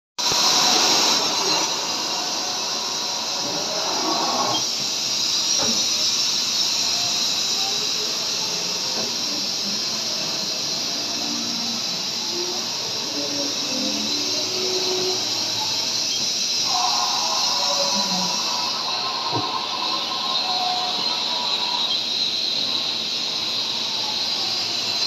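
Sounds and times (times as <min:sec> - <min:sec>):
steady hissing noise: 0:00.2 - 0:25.0.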